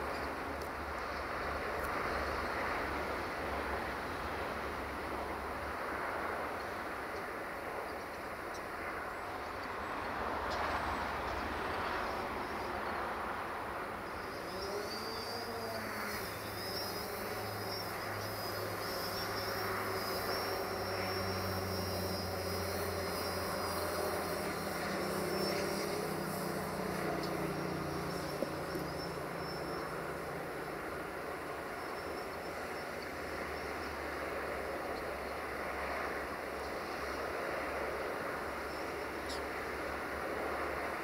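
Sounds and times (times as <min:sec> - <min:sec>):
distant diesel locomotive drone: 0:00.0 - 0:41.0.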